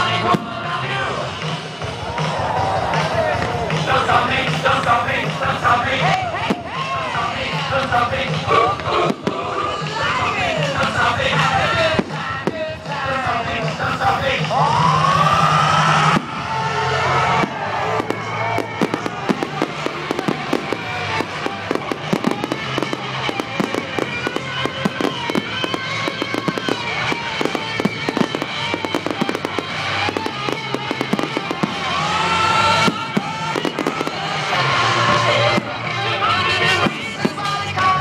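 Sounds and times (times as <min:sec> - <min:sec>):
fireworks bangs and crackles: 0:00.0 - 0:38.0
music playing: 0:00.0 - 0:38.0.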